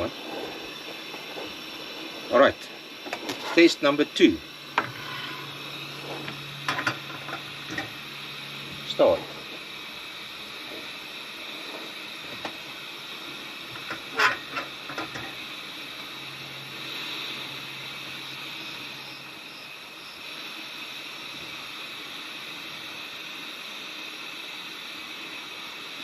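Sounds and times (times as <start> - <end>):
gas stove burner hissing: 0.0 - 26.0.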